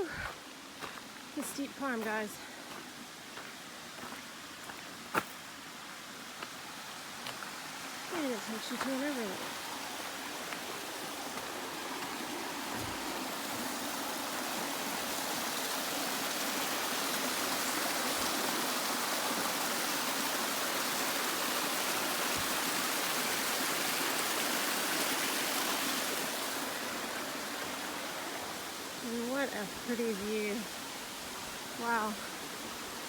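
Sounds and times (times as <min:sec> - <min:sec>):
cascading water rushing: 0:00.0 - 0:33.0.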